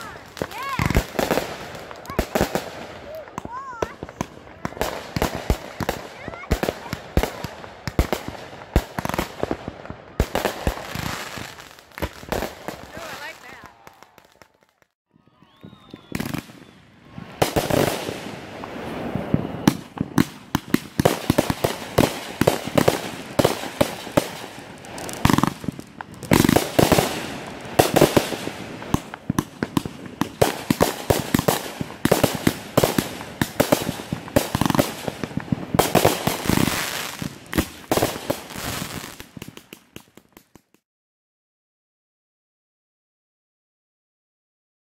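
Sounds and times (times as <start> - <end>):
firework cake shots and bursts: 0.0 - 40.8.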